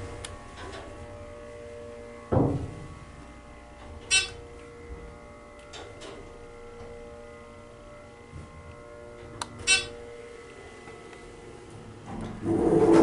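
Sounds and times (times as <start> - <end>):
elevator humming: 0.0 - 13.0.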